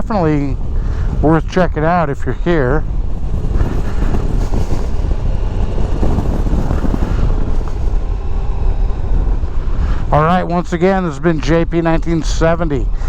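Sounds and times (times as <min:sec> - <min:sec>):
motorcycle engine and tyre noise: 0:00.0 - 0:13.0
wind buffeting microphone: 0:00.0 - 0:13.0.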